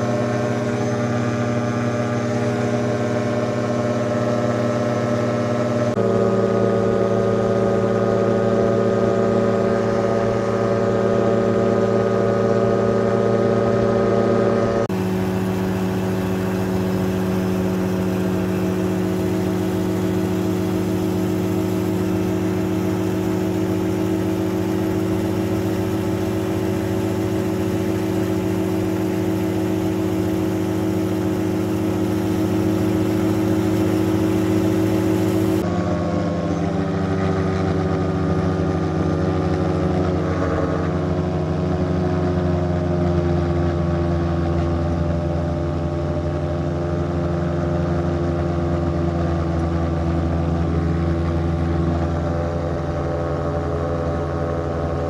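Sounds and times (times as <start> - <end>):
ultralight aircraft engine droning: 0.0 - 55.0.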